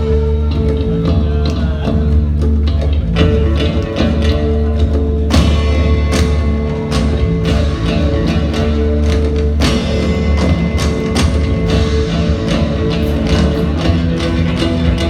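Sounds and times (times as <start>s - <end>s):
fusion rock band playing: 0.0s - 15.0s
percussion strikes: 0.0s - 15.0s.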